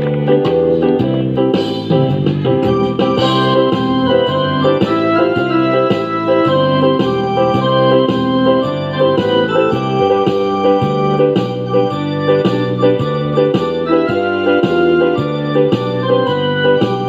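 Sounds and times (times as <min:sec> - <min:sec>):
electronic keyboard organ chords: 0:00.0 - 0:17.0.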